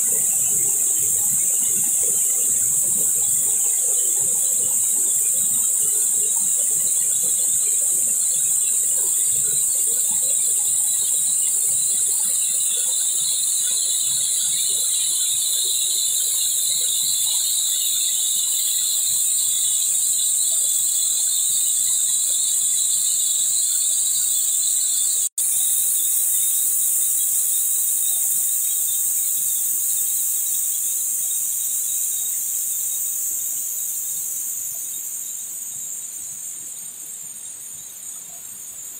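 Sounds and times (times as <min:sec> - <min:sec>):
insects droning high-pitched: 0:00.0 - 0:38.9.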